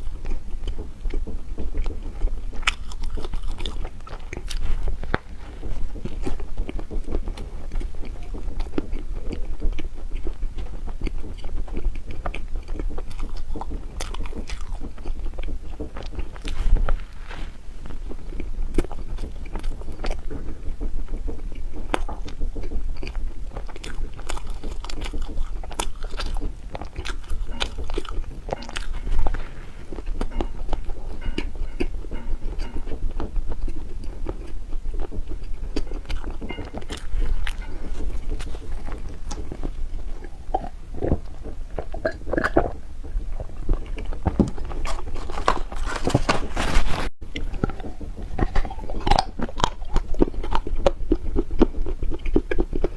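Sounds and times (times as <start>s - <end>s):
biting and chewing: 0.0s - 52.9s.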